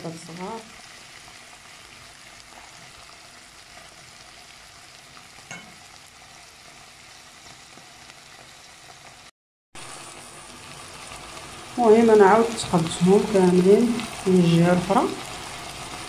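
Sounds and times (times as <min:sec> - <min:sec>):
sausages sizzling in a pan: 0:00.0 - 0:16.0.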